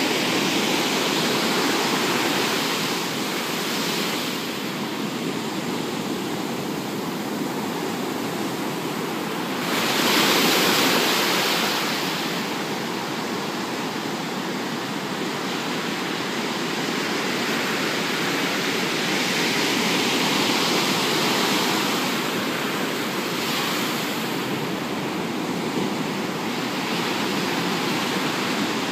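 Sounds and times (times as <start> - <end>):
ocean surf breaking on beach: 0.0 - 28.9.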